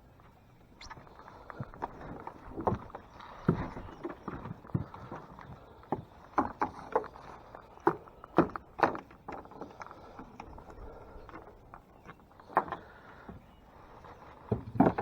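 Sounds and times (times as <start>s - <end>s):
boat knocks and splashy clicks: 0.2s - 15.0s.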